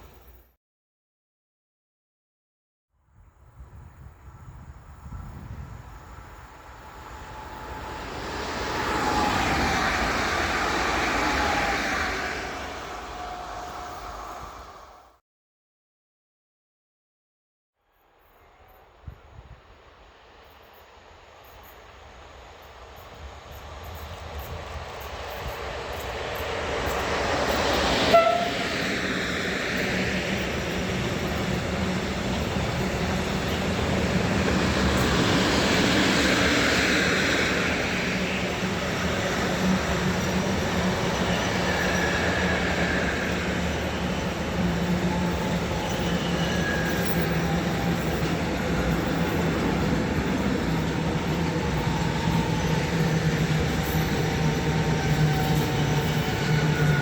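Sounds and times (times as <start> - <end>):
train passing: 3.4 - 15.2, 18.0 - 57.0.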